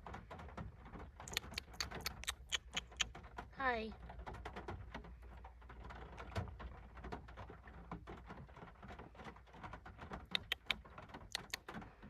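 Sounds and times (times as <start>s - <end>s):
light rain tapping on car roof: 0.0s - 1.8s, 2.9s - 12.0s.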